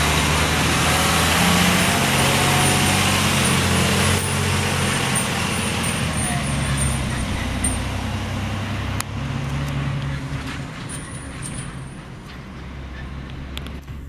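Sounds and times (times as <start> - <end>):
fire engine diesel engine: 0.0 - 14.0.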